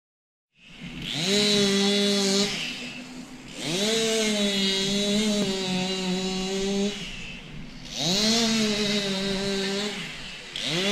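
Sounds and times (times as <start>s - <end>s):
distant chainsaw revving: 0.6s - 10.9s.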